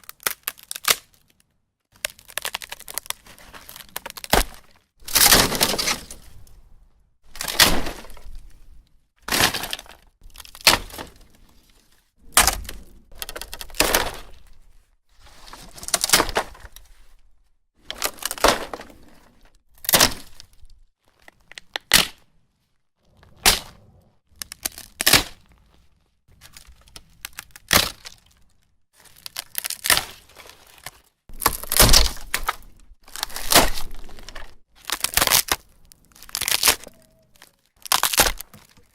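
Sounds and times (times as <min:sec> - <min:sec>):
dry wood cracking and splintering: 0:00.0 - 0:06.6, 0:07.3 - 0:14.8, 0:15.5 - 0:17.2, 0:17.8 - 0:22.2, 0:23.0 - 0:38.9.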